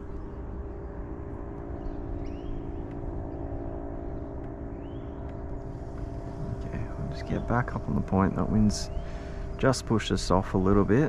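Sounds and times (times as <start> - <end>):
kayak drive humming: 0.0 - 11.0
wind rumbling on microphone: 0.0 - 11.0.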